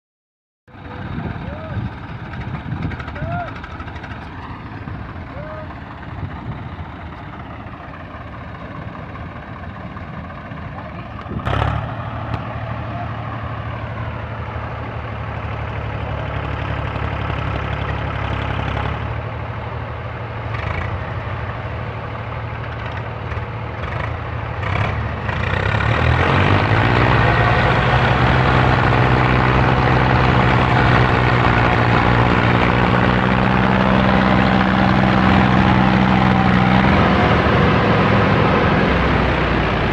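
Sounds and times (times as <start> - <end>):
tractor engines running: 0.7 - 39.9.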